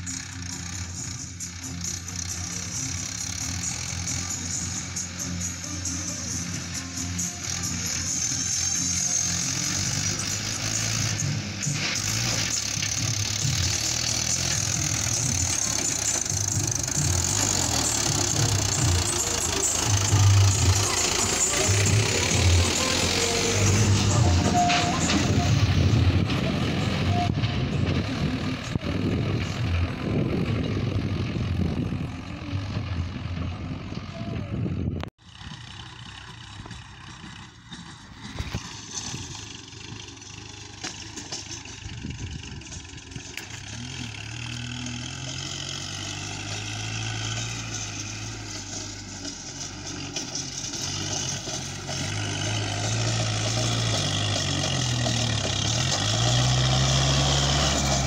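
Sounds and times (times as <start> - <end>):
tractor engine rumbling: 0.0 - 58.0.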